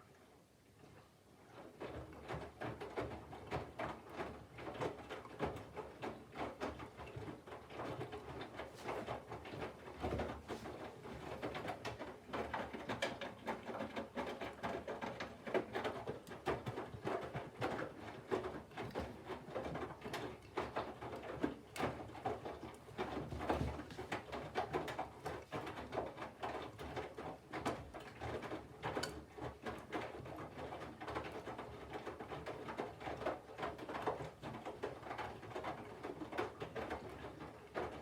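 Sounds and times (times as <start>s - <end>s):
wet laundry tumbling and sloshing: 1.5s - 38.0s.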